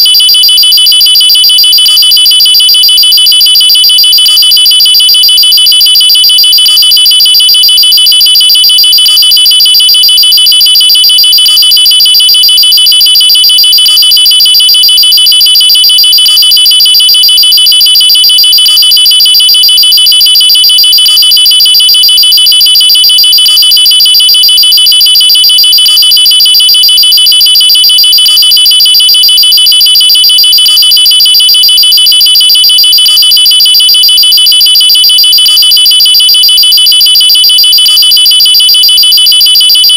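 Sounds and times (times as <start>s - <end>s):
high-pitched pulsing alarm: 0.0s - 39.9s.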